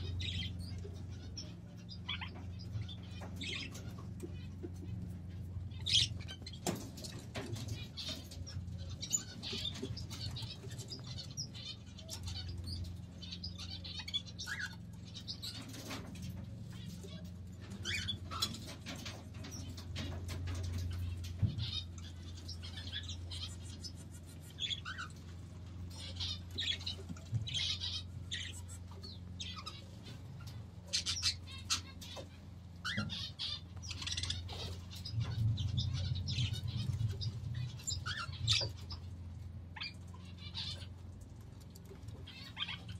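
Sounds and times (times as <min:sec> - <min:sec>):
parakeets chirping and twittering: 0:00.0 - 0:42.9
steady low hum: 0:00.0 - 0:42.9.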